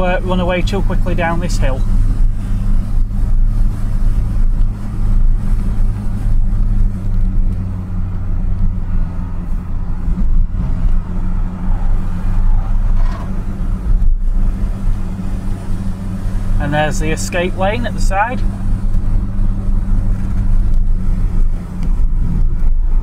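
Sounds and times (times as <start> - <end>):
car engine and road drone: 0.0 - 23.0
wind rushing over car: 1.4 - 23.0.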